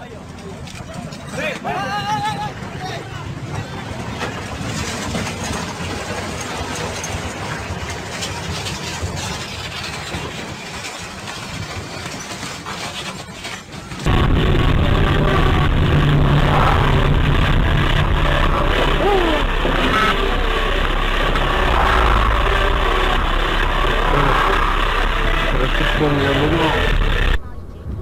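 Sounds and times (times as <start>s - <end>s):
low engine drone in traffic: 0.0s - 28.0s
trucks on a road: 0.0s - 28.0s.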